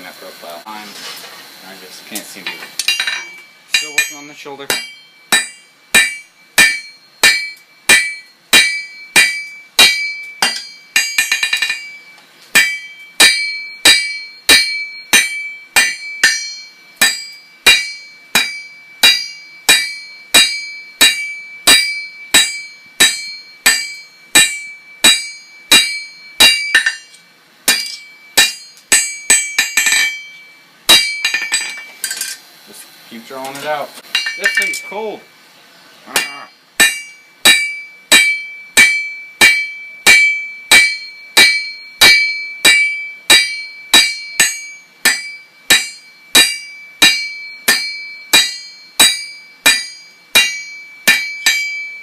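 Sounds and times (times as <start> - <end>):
hammer ringing on anvil: 2.8 - 32.4, 34.1 - 35.2, 36.1 - 52.0.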